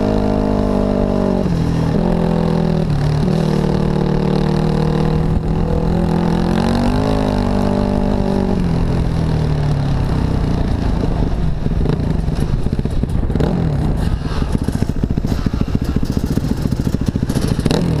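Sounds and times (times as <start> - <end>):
dirt bike engine revving: 0.0 - 9.2, 11.8 - 18.0
wind noise on microphone: 0.0 - 18.0.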